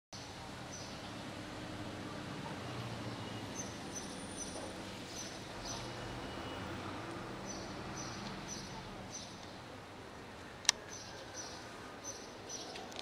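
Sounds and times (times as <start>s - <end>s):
traffic hum: 0.2s - 13.0s.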